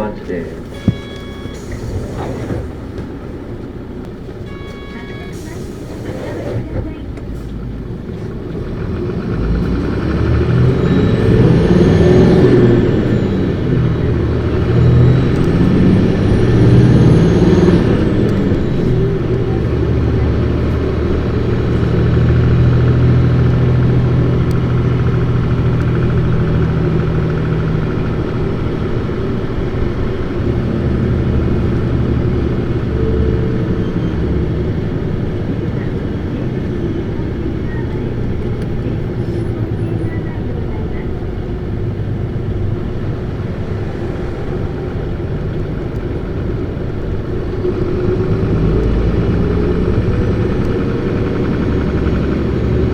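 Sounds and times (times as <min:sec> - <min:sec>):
bus diesel engine accelerating: 0:00.0 - 0:52.9.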